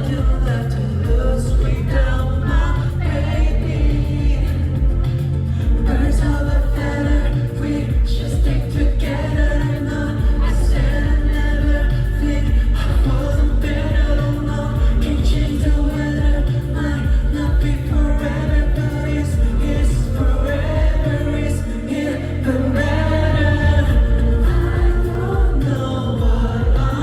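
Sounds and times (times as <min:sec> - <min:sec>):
man singing: 0:00.0 - 0:27.0
pop backing track with heavy bass: 0:00.0 - 0:27.0.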